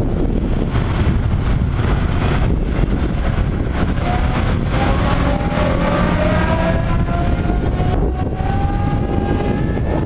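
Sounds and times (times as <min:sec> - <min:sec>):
jet engines rumbling: 0:00.0 - 0:10.0
rising engine whine: 0:00.0 - 0:10.0.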